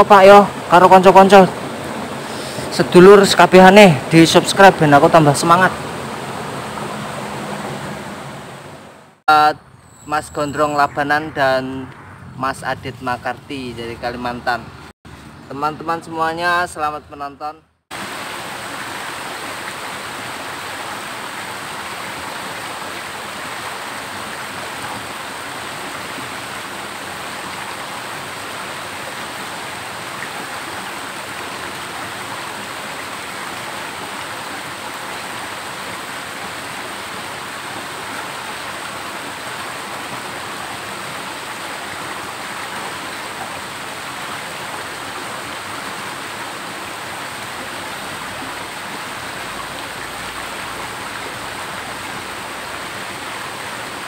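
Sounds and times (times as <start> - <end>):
water rushing down waterfall: 0.0 - 9.2, 15.5 - 54.0.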